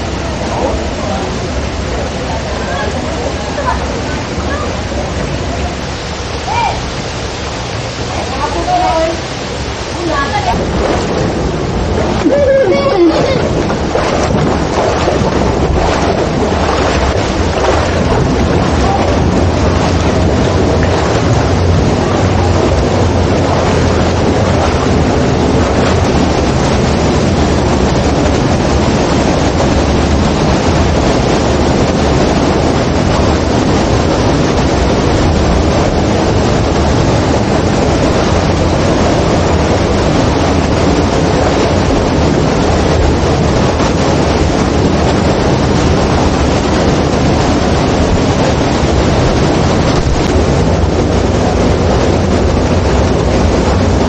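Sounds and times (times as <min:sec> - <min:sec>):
road rumble: 0:00.0 - 0:54.0
wind rush on microphone: 0:00.0 - 0:54.0.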